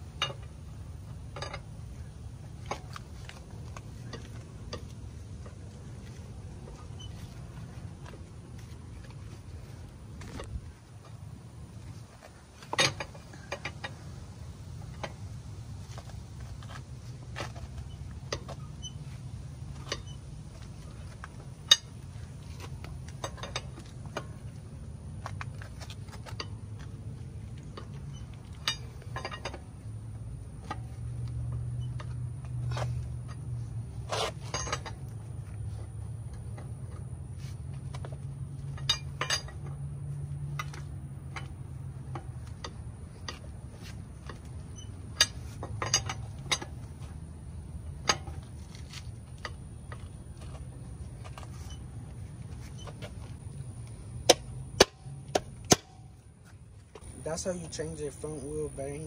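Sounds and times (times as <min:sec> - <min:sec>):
lug wrench clinking on metal: 0:00.0 - 0:09.4, 0:11.9 - 0:57.2
steady low hum: 0:00.0 - 0:59.0.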